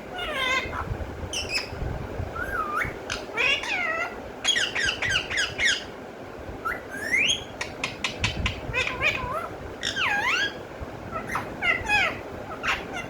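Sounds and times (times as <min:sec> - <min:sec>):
parrot squeaky calls: 0:00.1 - 0:01.8, 0:02.4 - 0:05.9, 0:06.6 - 0:13.0.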